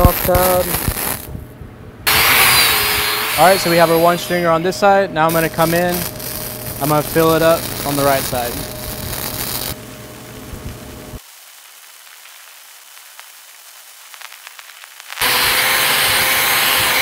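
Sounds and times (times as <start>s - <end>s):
welding arc crackling and hissing: 0.0s - 1.4s, 2.1s - 17.0s.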